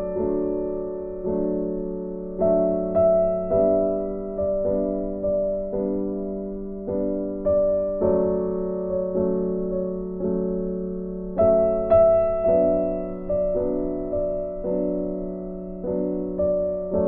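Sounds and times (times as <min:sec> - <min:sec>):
gentle instrumental chords: 0:00.0 - 0:17.0.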